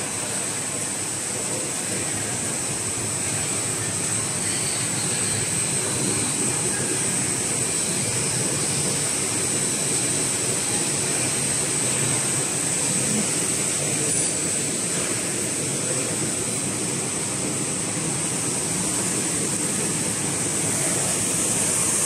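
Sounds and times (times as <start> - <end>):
high-pitched hiss: 0.0 - 22.0
machinery drone: 0.0 - 22.0.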